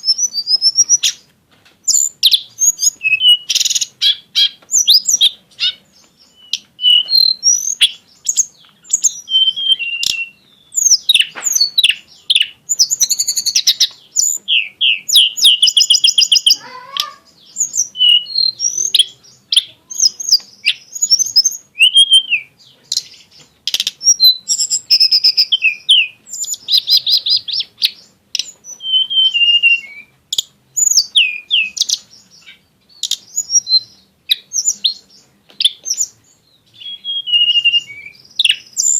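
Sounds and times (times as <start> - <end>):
songbird singing whistled phrases: 0.0 - 38.9.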